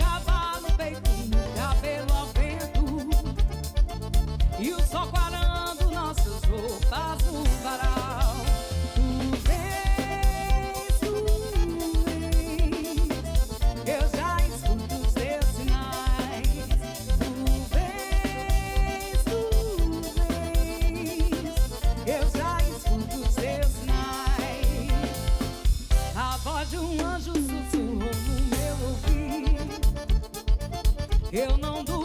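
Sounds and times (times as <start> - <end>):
steady drum beat: 0.0 - 32.0
wavering melodic lead line: 0.0 - 32.0.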